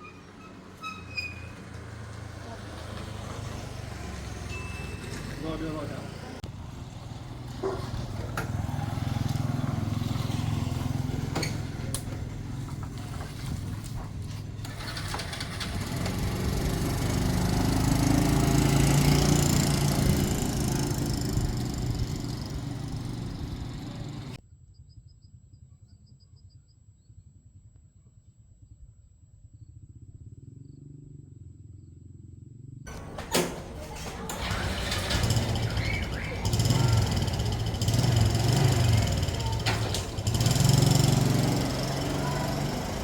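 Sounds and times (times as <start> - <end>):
vehicle engine running: 1.5 - 24.4, 30.0 - 43.0.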